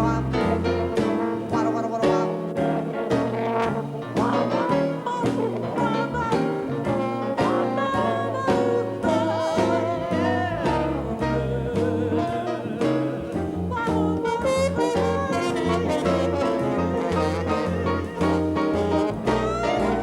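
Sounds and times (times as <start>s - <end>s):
swing jazz band playing: 0.0s - 20.0s.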